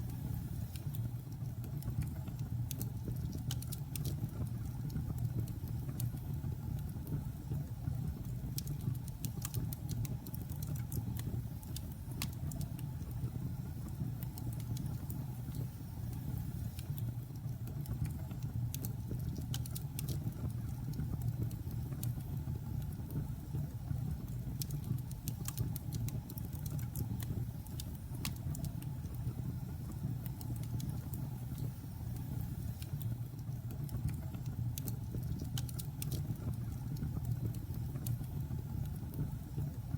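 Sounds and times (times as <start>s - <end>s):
fire crackling and popping: 0.1s - 39.9s.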